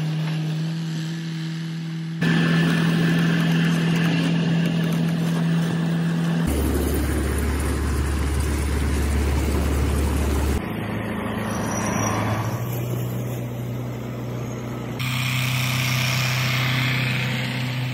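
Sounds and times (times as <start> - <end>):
tractor diesel engine droning: 0.0 - 17.9.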